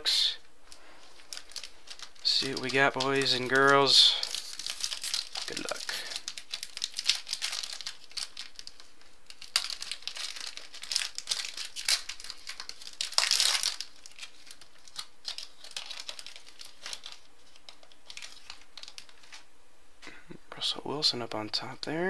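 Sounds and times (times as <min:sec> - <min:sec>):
card pack wrappers tearing and crinkling: 0:00.1 - 0:19.4.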